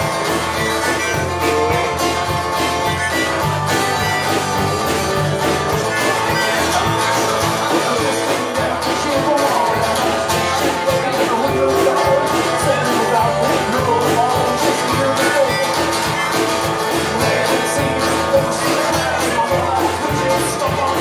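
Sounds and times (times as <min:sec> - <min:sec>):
guitars: 0:00.0 - 0:21.0
live rock band playing: 0:00.0 - 0:21.0.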